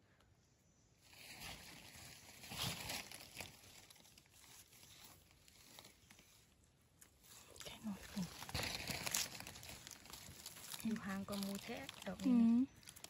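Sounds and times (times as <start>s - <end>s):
dry leaves crackling and rustling: 1.0s - 13.0s
knife scraping forest floor: 1.1s - 12.2s.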